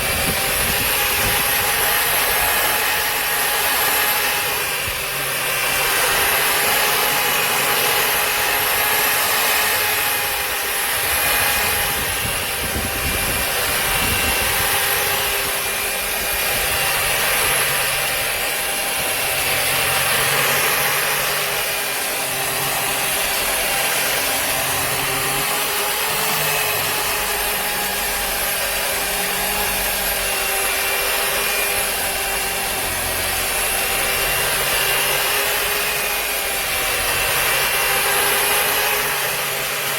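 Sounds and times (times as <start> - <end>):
sander motor whine: 0.0 - 39.9.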